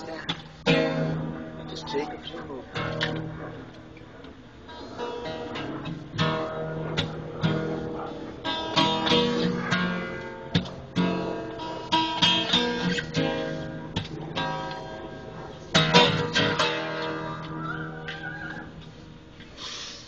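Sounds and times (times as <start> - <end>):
acoustic guitar blues: 0.0 - 20.0.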